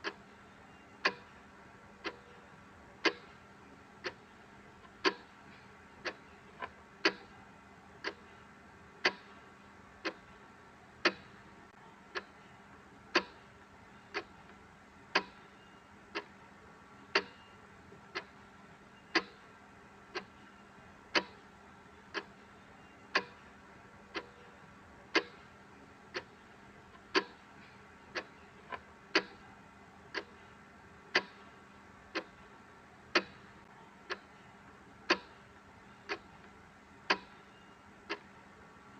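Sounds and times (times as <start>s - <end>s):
mechanical clock ticking: 0.0s - 3.4s, 4.0s - 7.3s, 8.0s - 11.4s, 12.1s - 12.4s, 13.1s - 16.4s, 17.1s - 38.9s
faint background hum: 0.0s - 38.9s.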